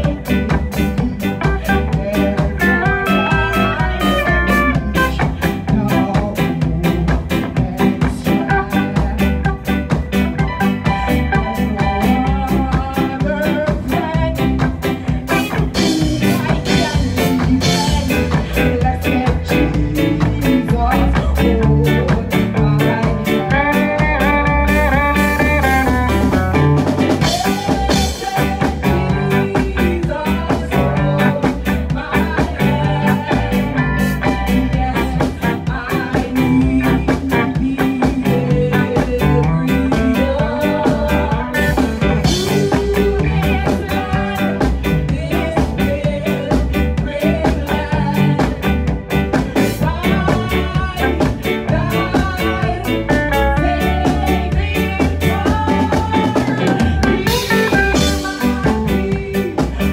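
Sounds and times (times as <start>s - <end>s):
live band playing gospel: 0.0s - 59.9s.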